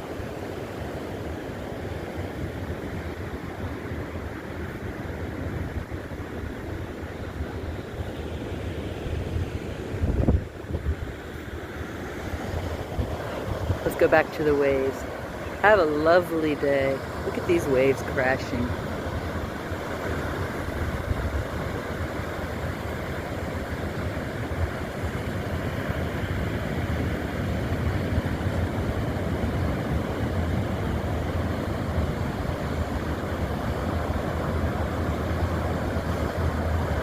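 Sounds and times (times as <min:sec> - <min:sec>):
ocean waves crashing: 0:00.0 - 0:37.0.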